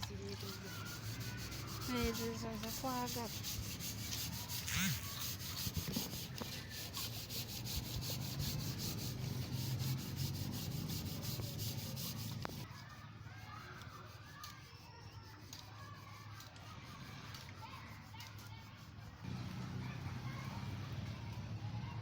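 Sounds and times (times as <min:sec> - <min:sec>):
rhythmic hand scraping: 0:00.0 - 0:19.3.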